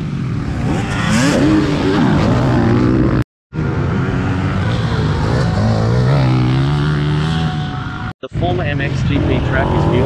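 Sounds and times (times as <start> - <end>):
dirt bike engines revving: 0.0 - 10.0.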